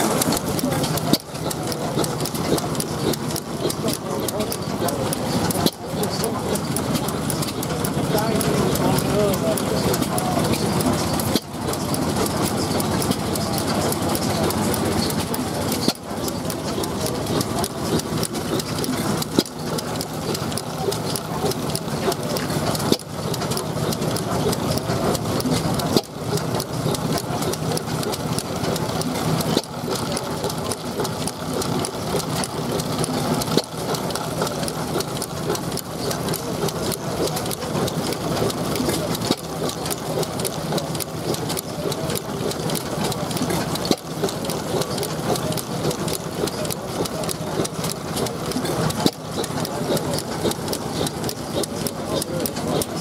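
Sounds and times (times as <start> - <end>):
stationary engine clattering: 0.0 - 53.0.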